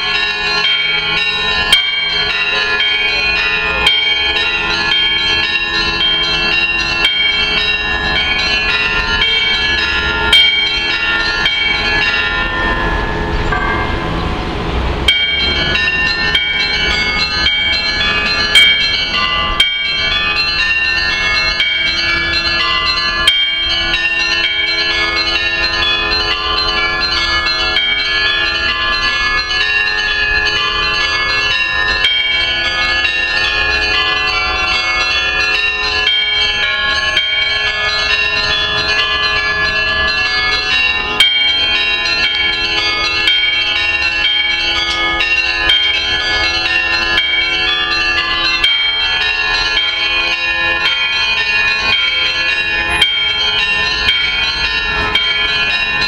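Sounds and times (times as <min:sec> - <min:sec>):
church bells pealing: 0:00.0 - 0:56.0
low bell tone: 0:00.0 - 0:56.0.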